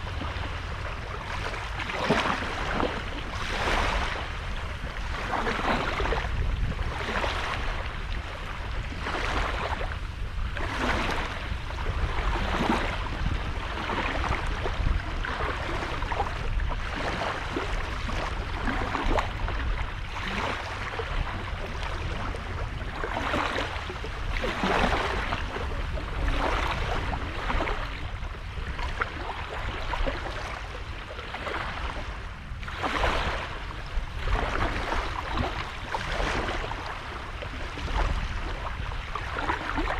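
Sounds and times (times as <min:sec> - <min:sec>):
waves washing on beach: 0:00.0 - 0:39.9.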